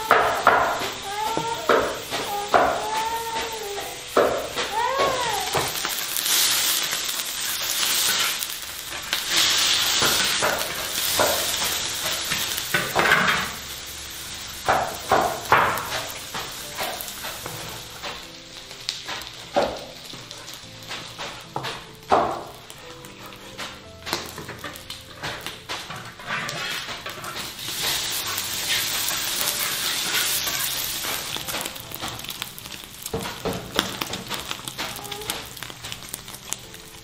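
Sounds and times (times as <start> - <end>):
pork fat sizzling in wok: 0.0 - 37.0.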